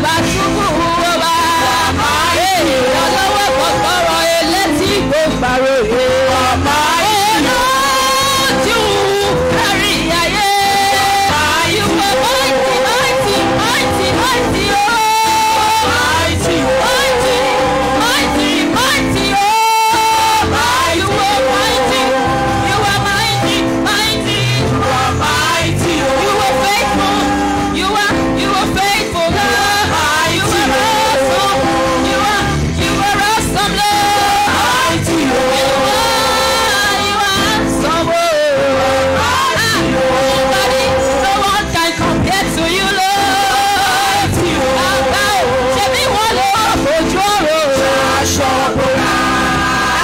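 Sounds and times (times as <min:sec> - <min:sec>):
gospel choir singing: 0:00.0 - 0:50.0
woman singing lead: 0:00.0 - 0:50.0
band with steady beat: 0:00.1 - 0:50.0.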